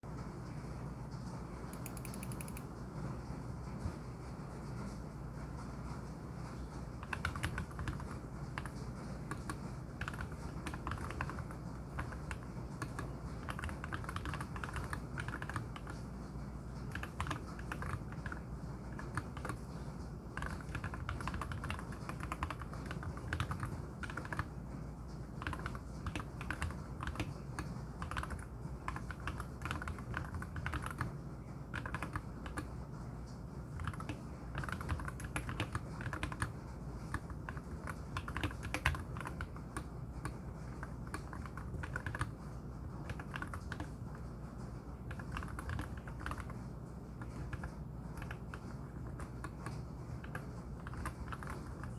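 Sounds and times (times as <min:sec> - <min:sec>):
mechanical keyboard typing: 0:01.8 - 0:02.7, 0:07.0 - 0:16.1, 0:16.8 - 0:24.6, 0:25.2 - 0:32.7, 0:33.7 - 0:44.3, 0:45.0 - 0:51.9.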